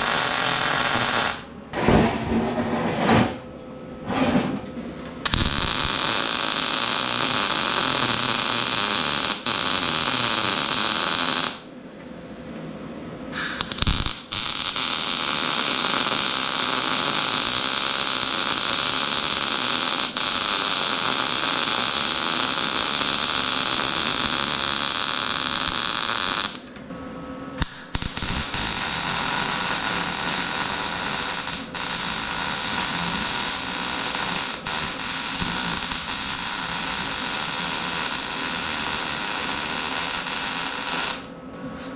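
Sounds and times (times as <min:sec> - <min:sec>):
arc welding crackling hiss: 0:00.0 - 0:01.5, 0:05.3 - 0:11.7, 0:13.3 - 0:26.7, 0:27.6 - 0:41.3.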